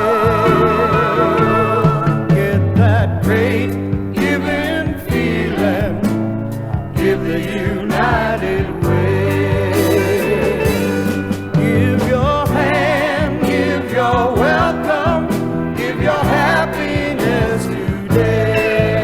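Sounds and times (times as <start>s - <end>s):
song with wavering singing voice: 0.0s - 19.0s.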